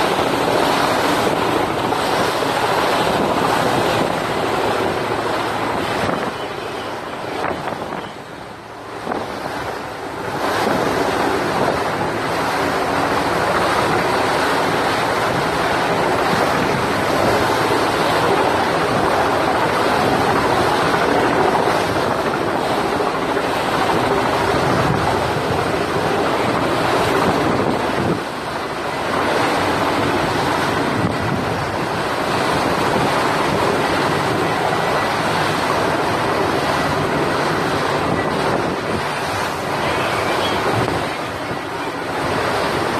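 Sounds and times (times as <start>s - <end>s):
sea washing: 0.0s - 42.9s
strong wind over microphone: 0.0s - 42.9s.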